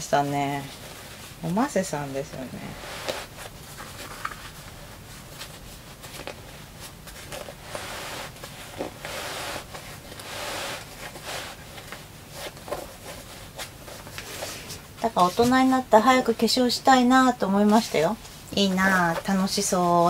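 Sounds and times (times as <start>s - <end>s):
cloth rustling and swishing: 0.0s - 20.0s.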